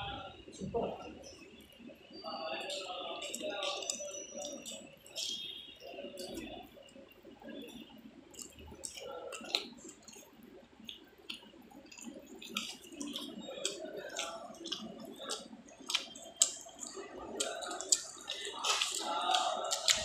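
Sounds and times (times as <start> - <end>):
background chatter: 0.0 - 11.2, 12.1 - 20.0
wet chewing: 2.7 - 20.0.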